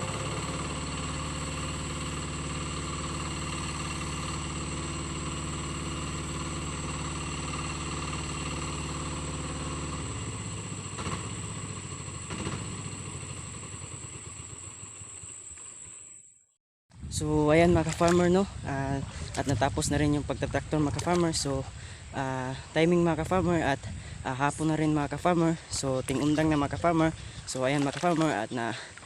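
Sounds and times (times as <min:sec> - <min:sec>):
hand tractor engine running: 0:00.0 - 0:15.7, 0:17.7 - 0:29.0.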